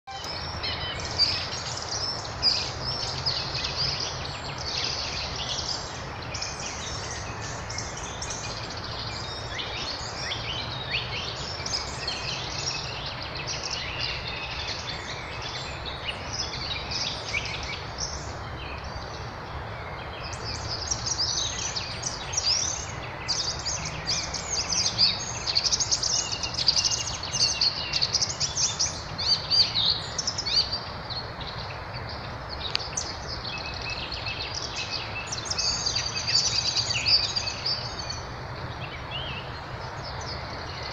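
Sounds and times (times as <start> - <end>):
songbirds chirping and trilling: 0.1 - 40.9.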